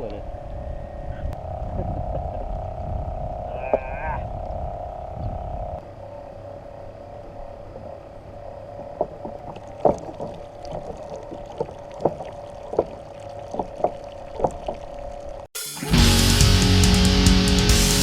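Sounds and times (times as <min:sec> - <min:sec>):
faint steady hum: 0:00.0 - 0:15.5.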